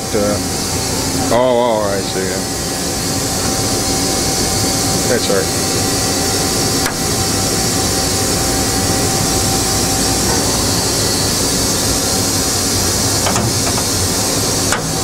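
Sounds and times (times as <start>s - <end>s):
machinery hiss and rumble: 0.0s - 15.0s
thin steady whine: 0.0s - 15.0s.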